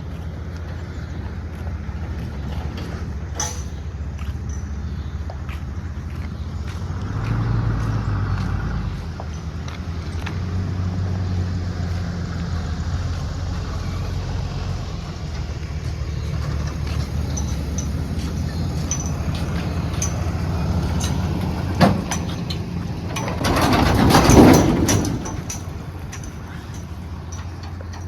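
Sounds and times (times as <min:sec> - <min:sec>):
vehicle humming: 0:00.0 - 0:28.0.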